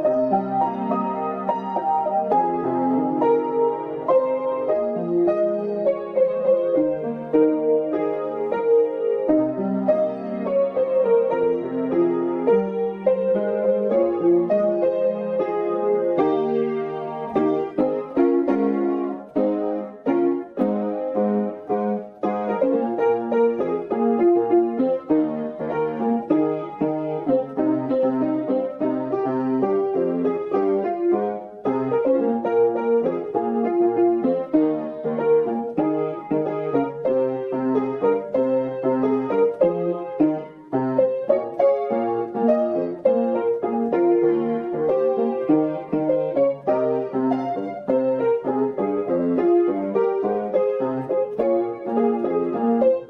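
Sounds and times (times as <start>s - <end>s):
piano chords: 0.0s - 53.0s.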